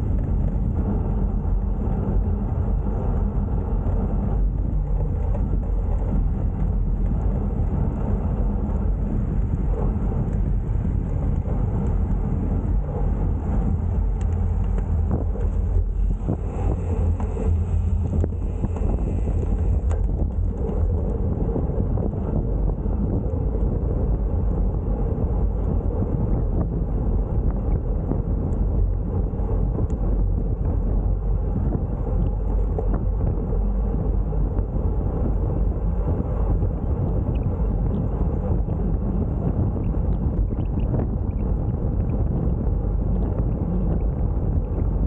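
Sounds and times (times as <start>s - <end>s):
wind rumble on microphone: 0.0s - 45.0s.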